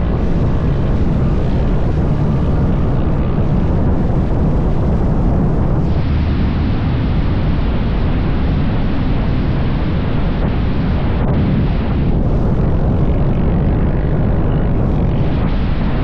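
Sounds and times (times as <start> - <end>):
motorcycle engine rumble: 0.0 - 16.0
wind rushing over microphone: 0.0 - 16.0.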